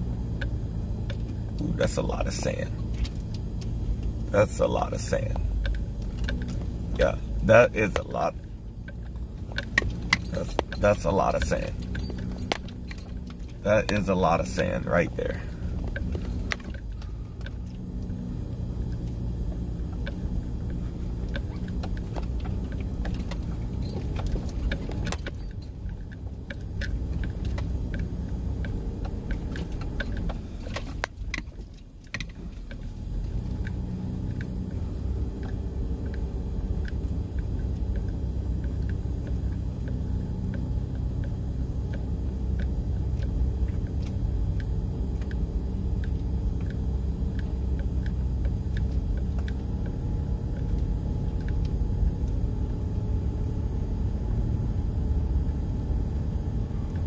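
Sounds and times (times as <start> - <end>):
car engine and tyre rumble: 0.0 - 57.0
interior rattling clicks: 0.2 - 57.0.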